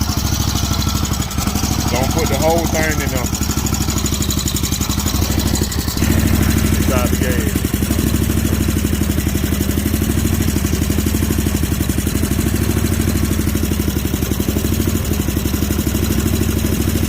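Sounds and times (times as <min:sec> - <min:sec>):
mower engine idling: 0:00.0 - 0:17.0.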